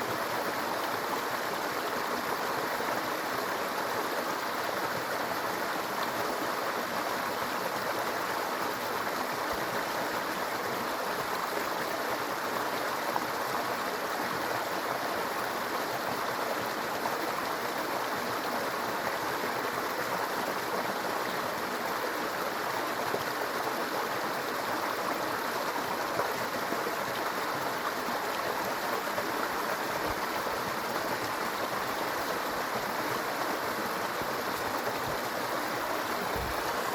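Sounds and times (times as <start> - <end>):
brook babbling: 0.0 - 36.9.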